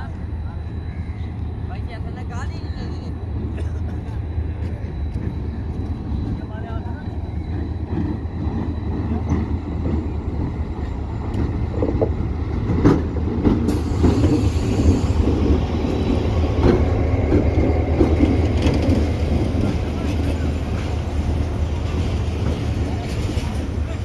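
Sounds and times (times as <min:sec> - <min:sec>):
locomotive engine rumble: 0:00.0 - 0:24.0
train wheels on rails: 0:00.0 - 0:24.0.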